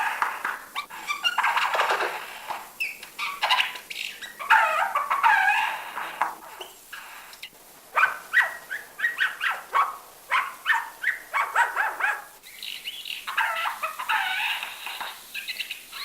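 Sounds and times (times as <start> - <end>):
bird yelping calls: 0.0 - 1.8, 2.8 - 16.0.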